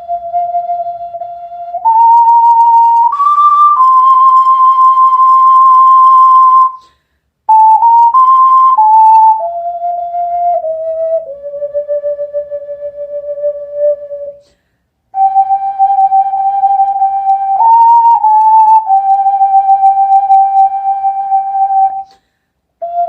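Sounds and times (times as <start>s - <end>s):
solo ocarina melody: 0.0s - 22.2s, 22.8s - 23.0s.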